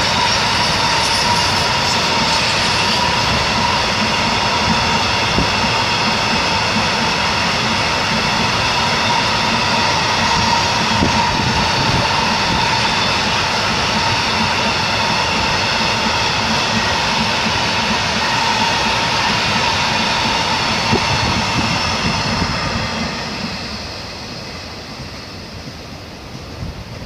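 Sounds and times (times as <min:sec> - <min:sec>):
high ringing rail tones: 0:00.0 - 0:27.0.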